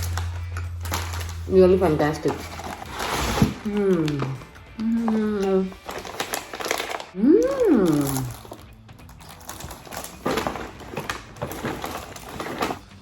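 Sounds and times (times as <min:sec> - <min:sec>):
rustling and handling noises: 0:00.0 - 0:07.2, 0:07.8 - 0:13.0
background music: 0:00.0 - 0:13.0.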